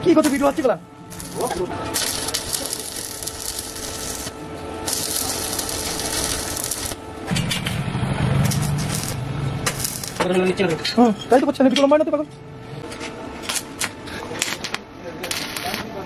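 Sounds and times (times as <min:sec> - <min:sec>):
welding arc crackling: 0:00.0 - 0:10.6, 0:13.4 - 0:16.0.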